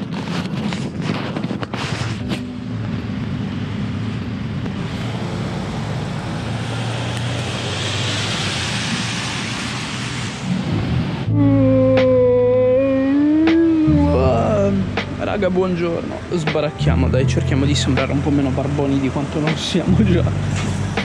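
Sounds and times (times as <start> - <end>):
vehicle passing on road: 0.0 - 12.5, 14.5 - 21.0.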